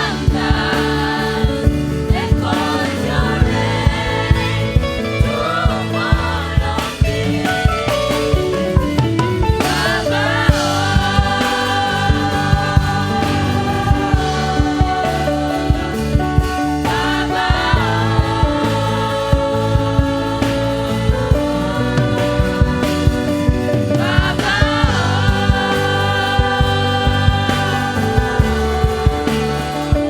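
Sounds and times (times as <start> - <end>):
drum beat: 0.0 - 30.0
people singing gospel song: 0.0 - 30.0.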